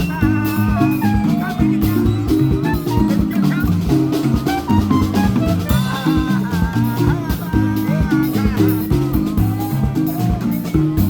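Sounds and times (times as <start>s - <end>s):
background music with drums: 0.0s - 11.0s.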